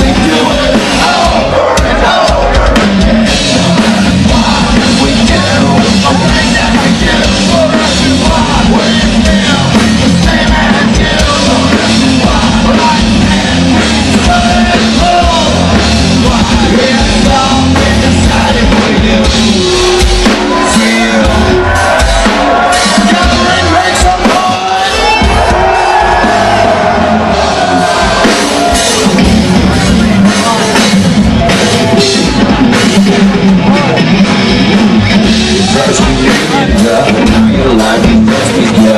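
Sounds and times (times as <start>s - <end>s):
live rock band playing: 0.0s - 38.9s
person singing and yelling: 0.0s - 38.9s.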